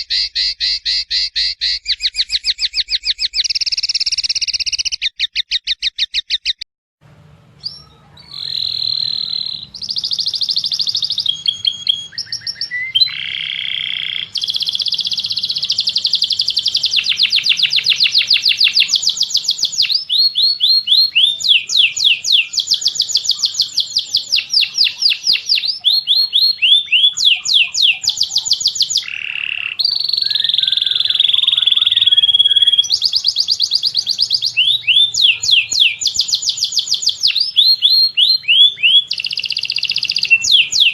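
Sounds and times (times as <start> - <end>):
songbird singing trills: 0.0 - 6.6, 7.6 - 40.9.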